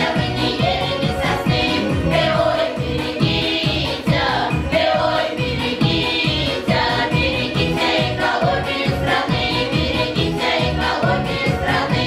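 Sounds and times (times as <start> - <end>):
music with steady beat: 0.0 - 12.0
women singing folk song in chorus: 0.0 - 12.0.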